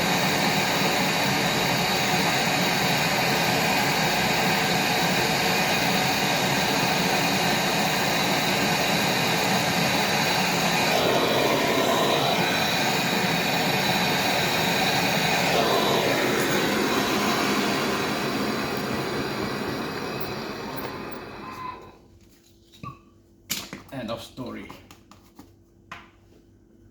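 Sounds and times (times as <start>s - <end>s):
gas torch roaring hiss: 0.0s - 22.0s.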